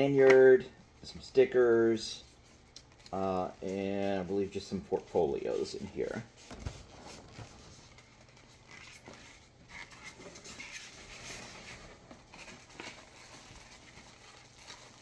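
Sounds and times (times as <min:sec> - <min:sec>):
rustling of packaging: 0:00.0 - 0:15.0.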